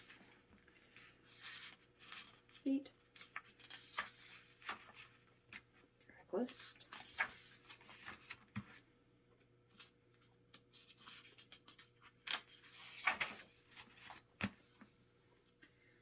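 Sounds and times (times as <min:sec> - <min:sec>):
paper pages rustling: 0:00.0 - 0:05.8, 0:06.6 - 0:08.8, 0:09.7 - 0:14.9.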